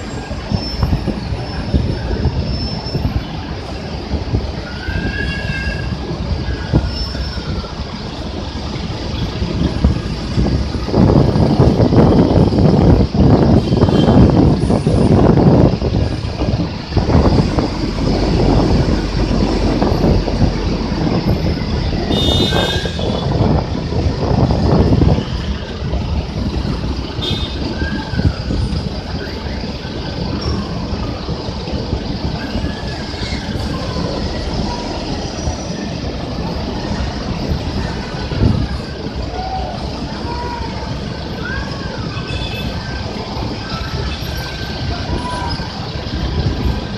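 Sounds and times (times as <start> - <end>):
bus engine rumbling: 0.0 - 46.9.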